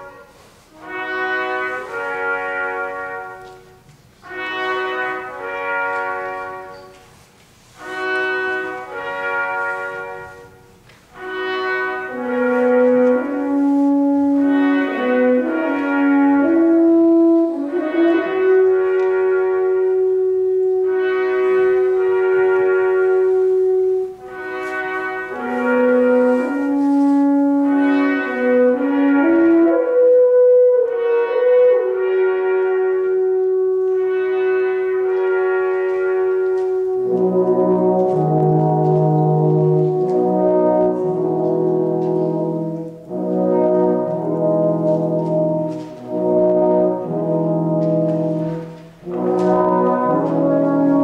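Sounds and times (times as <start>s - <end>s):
brass ensemble playing: 0.0s - 51.0s.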